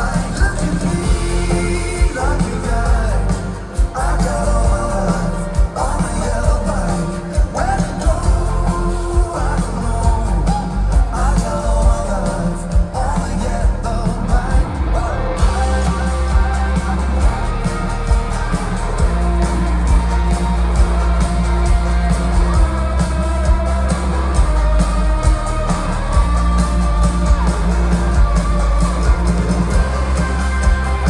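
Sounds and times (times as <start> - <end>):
live folk-rock band playing: 0.0 - 31.0.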